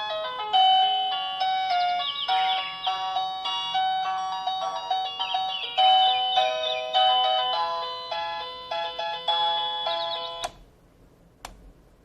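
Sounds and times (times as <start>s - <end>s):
alarm clock beeping melody: 0.0s - 10.6s.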